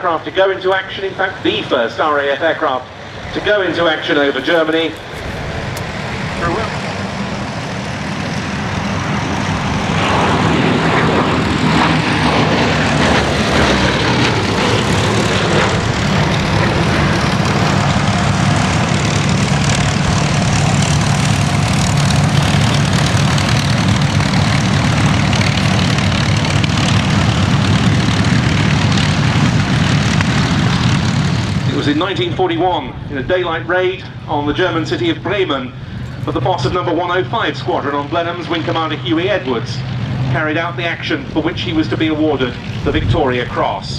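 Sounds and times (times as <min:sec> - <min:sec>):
propeller aircraft engines droning: 0:00.0 - 0:43.9.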